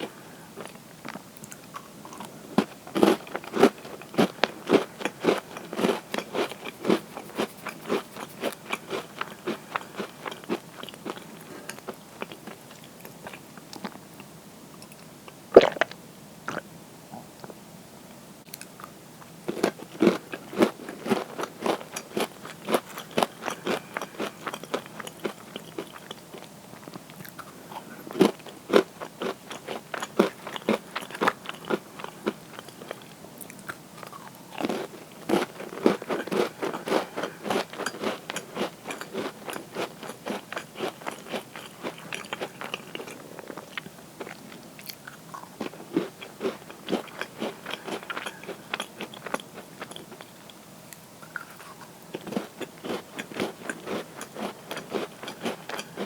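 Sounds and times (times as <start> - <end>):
crunchy cookies being chewed: 0.0 - 16.7, 18.5 - 56.0.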